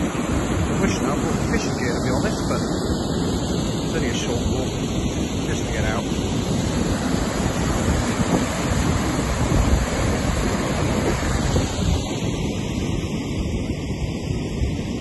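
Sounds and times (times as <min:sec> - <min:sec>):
river rushing over weir: 0:00.0 - 0:15.0
wind buffeting microphone: 0:00.0 - 0:15.0.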